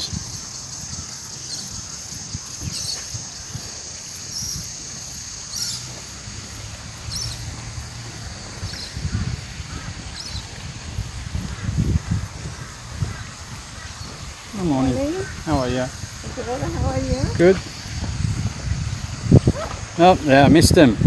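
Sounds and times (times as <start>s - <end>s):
birds chirping: 0.0s - 21.0s
high insect drone: 0.0s - 21.0s
wind buffeting microphone: 0.0s - 21.0s.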